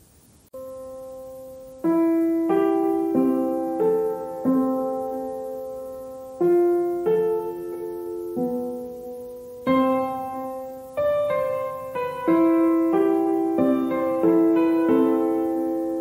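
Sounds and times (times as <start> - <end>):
gentle piano piece: 0.4 - 16.0.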